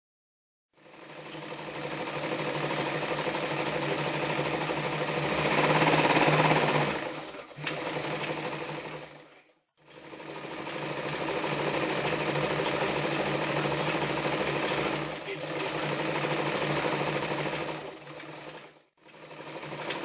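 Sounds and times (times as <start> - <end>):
electric sewing machine stitching: 0.8 - 20.0.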